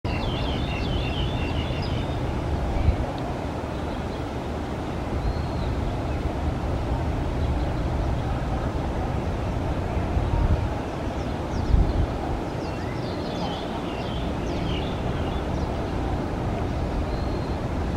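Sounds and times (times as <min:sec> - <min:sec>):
birds chirping: 0:00.1 - 0:03.0, 0:03.6 - 0:06.4, 0:07.0 - 0:17.9.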